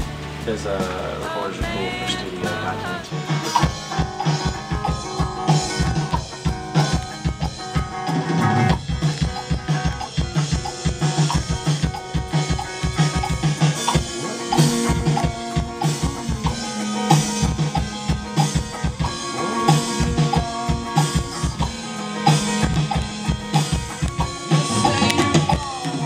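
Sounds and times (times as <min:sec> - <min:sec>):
band playing a song: 0:00.0 - 0:26.0.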